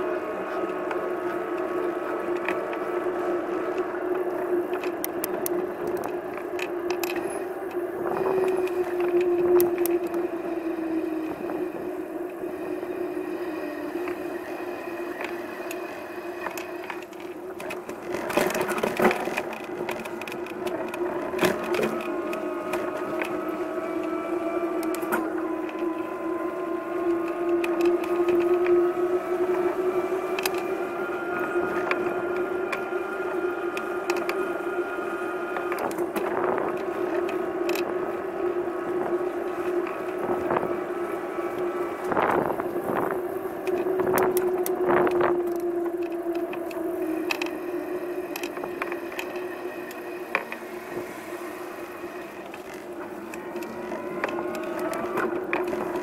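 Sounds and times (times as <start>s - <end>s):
vehicle droning: 0.0s - 56.0s.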